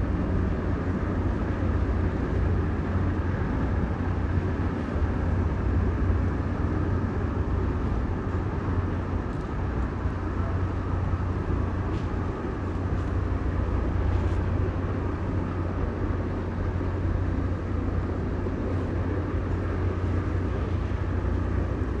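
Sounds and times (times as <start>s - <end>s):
diesel engine low rumble: 0.0s - 22.0s.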